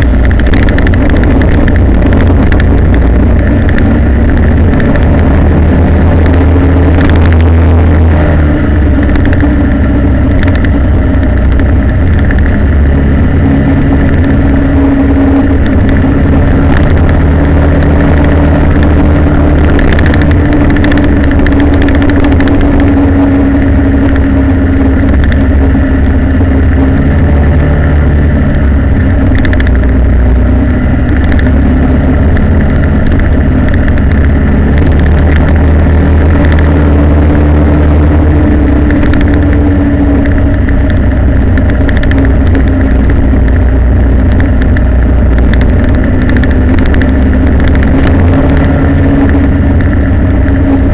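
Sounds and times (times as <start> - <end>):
low-pitched road noise: 0.0 - 50.9
vehicle engine running: 0.0 - 50.9.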